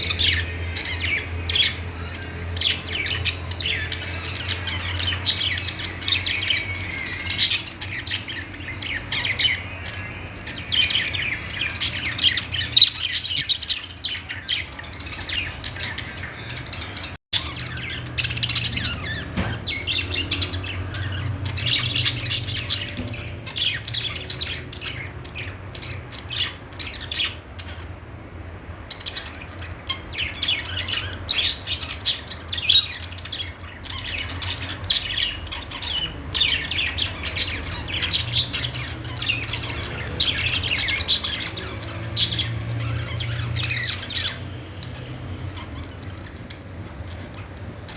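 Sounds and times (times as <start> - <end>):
budgerigars chirping and chattering: 0.0 - 28.1, 28.8 - 47.9.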